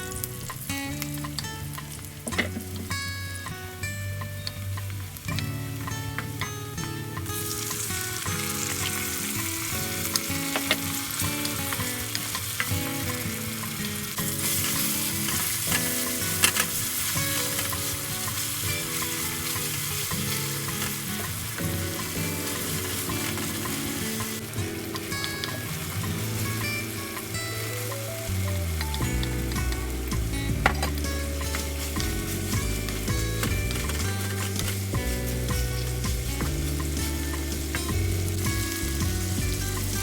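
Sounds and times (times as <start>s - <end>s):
food sizzling in a pan: 0.0s - 40.0s
soft melody: 0.0s - 40.0s.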